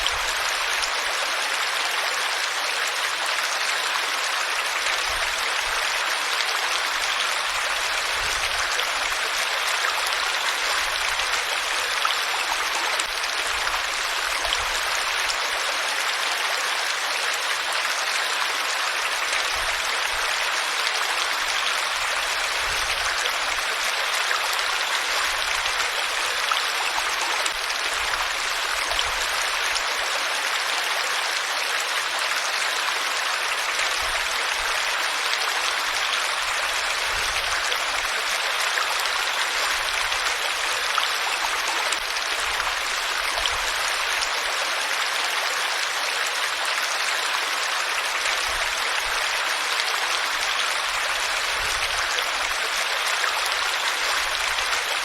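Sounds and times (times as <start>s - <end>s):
flowing stream water: 0.0s - 55.0s.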